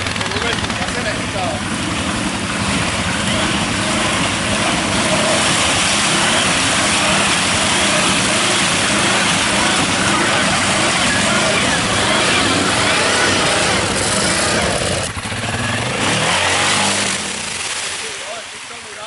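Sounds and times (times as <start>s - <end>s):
atv engine running: 0.0s - 19.0s
dense rushing noise: 0.0s - 19.0s.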